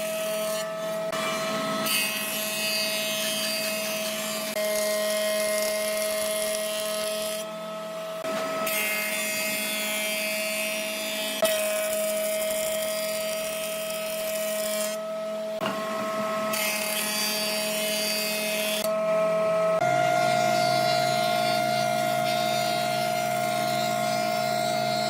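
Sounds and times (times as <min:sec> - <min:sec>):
woodworking machine whining: 0:00.0 - 0:25.0.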